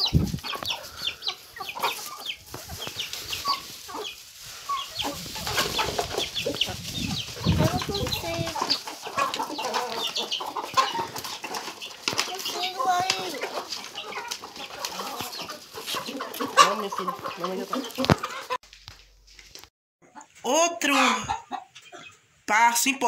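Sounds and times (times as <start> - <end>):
chickens clucking: 0.0 - 18.6, 20.0 - 22.4.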